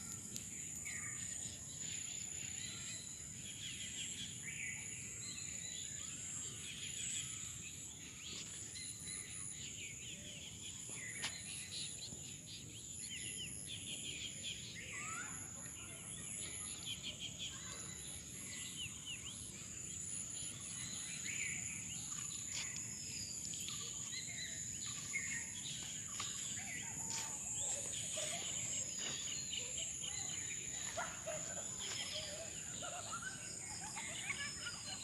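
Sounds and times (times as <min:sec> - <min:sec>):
birds chirping: 0:05.3 - 0:35.0.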